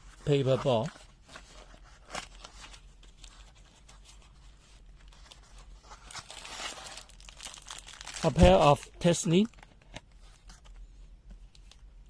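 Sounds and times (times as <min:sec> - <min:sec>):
paper box rustling: 0:00.0 - 0:10.8.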